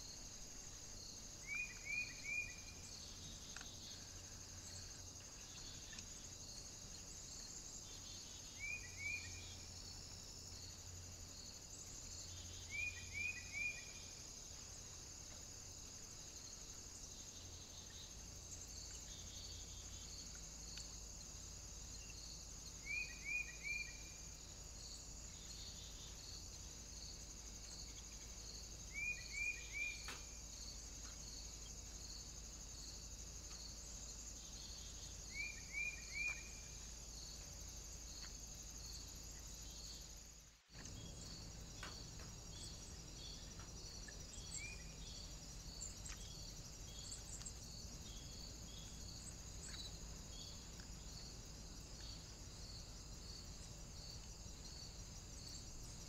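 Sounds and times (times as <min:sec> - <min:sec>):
high-pitched insect chorus hiss: 0:00.0 - 0:56.0.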